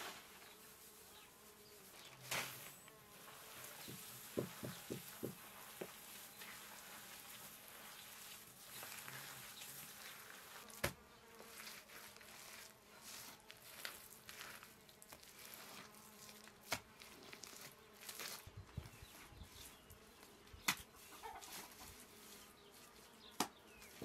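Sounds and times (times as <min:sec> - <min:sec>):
insect buzzing: 0:00.1 - 0:20.6.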